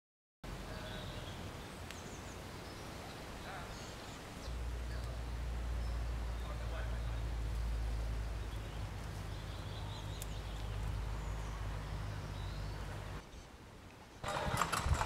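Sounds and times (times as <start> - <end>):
low rumble and hiss: 0.5 - 14.2
faint bird calls: 0.7 - 13.6.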